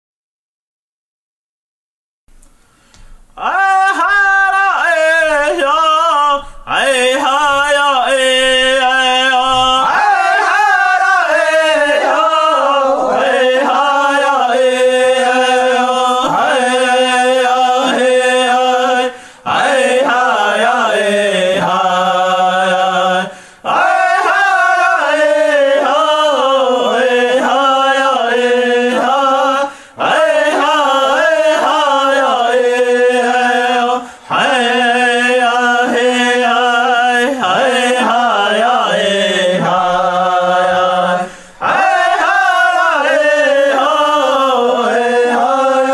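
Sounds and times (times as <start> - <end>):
person chanting a prayer song: 3.4 - 45.9.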